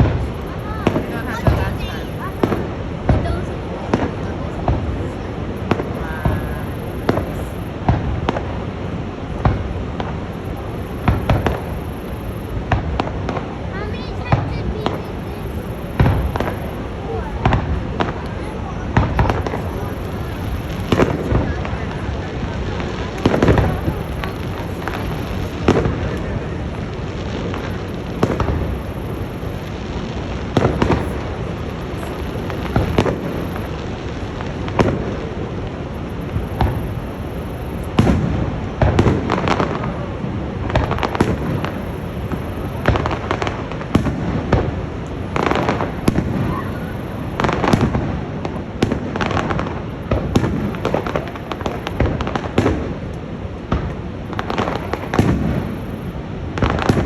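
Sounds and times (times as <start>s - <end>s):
background rumble: 0.0s - 57.0s
fireworks bangs and crackles: 0.0s - 57.0s.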